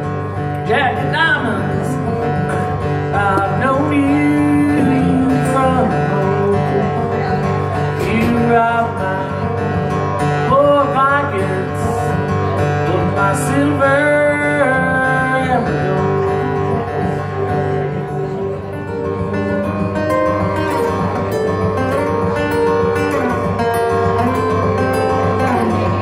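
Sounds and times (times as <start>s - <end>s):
acoustic guitar picked and strummed: 0.0s - 26.0s.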